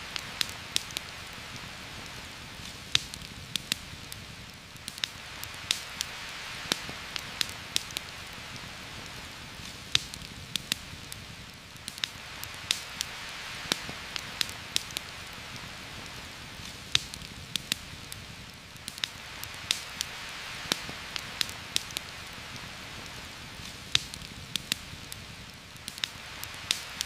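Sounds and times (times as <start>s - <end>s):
heavy rain on leaves: 0.0s - 27.0s.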